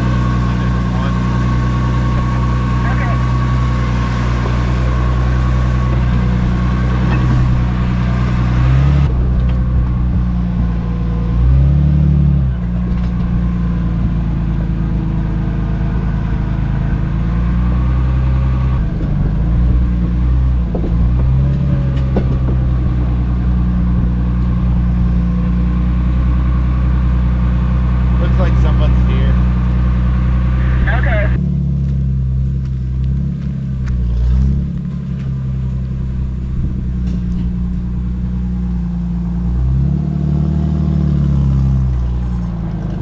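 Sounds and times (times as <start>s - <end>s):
jeep engine running: 0.0s - 43.0s.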